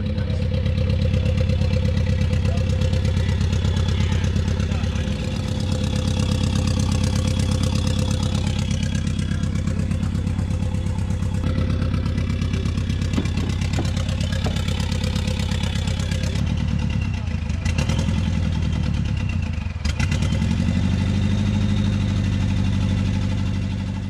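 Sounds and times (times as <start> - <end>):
car engine running steadily: 0.0 - 24.0.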